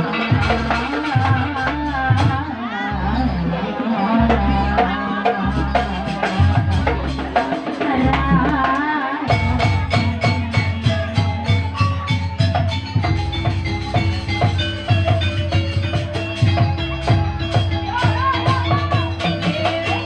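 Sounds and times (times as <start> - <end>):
gamelan music: 0.0 - 20.0.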